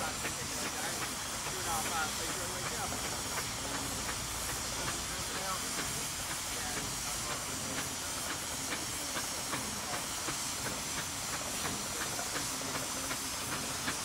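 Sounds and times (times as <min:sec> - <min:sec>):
steam engine exhaust beats: 0:00.0 - 0:14.0
steam hissing: 0:00.0 - 0:14.0.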